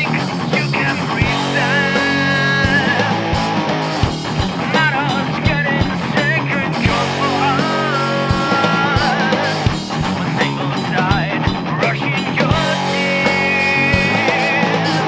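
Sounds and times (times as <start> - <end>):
bass: 0.0 - 15.0
lead guitar line: 0.0 - 15.0
steady drums: 0.0 - 15.0.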